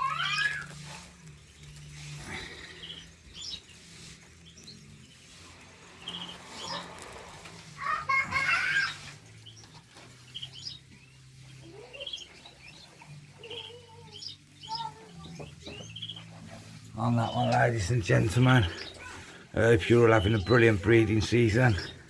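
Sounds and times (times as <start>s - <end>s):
finches chirping: 0.0s - 22.0s.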